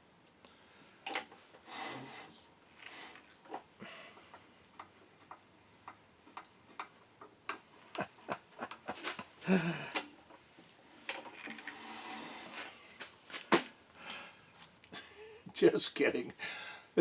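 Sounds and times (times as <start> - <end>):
clicks and knocks of metal and wood: 1.0 - 14.8.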